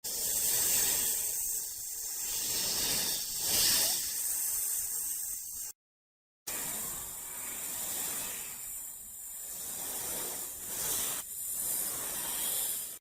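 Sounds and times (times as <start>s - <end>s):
snake hissing: 0.1s - 5.8s, 6.5s - 13.0s.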